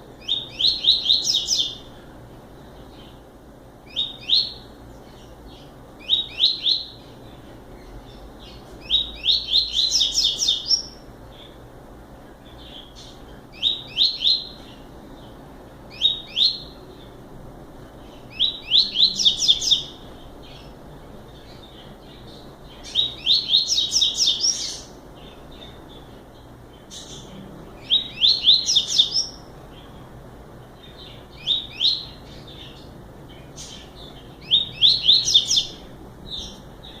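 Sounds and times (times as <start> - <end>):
bird singing high downward notes: 0.2 - 2.0, 3.9 - 11.6, 12.5 - 17.2, 18.0 - 29.9, 30.8 - 37.0.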